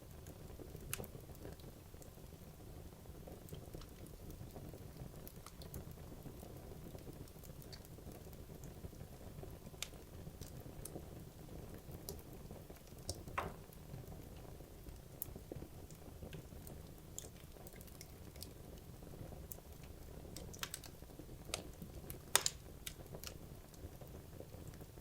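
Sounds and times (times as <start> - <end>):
logs burning crackling: 0.0 - 25.0.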